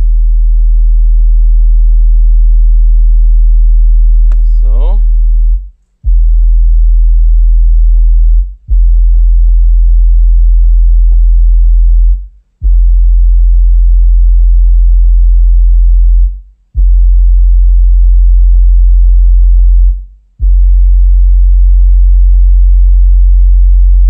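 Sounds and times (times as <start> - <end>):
deep subwoofer test tone: 0.0 - 24.0.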